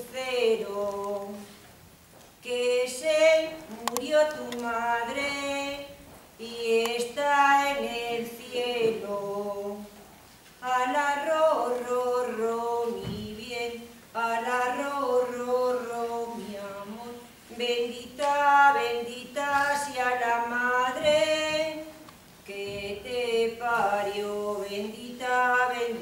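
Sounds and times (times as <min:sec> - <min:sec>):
woman singing a lullaby: 0:00.0 - 0:01.5, 0:02.4 - 0:10.0, 0:10.6 - 0:26.0.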